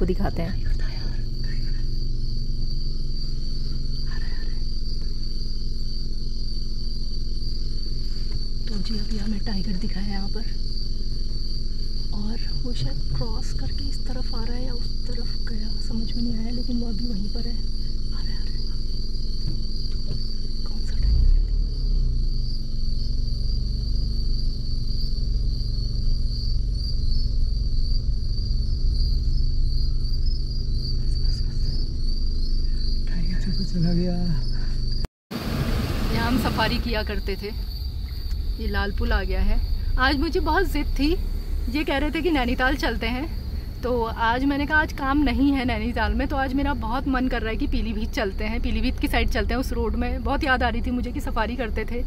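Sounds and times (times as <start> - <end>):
car engine hum: 0.0 - 52.0
crickets trilling: 0.0 - 52.0
low continuous rumble: 0.0 - 52.0.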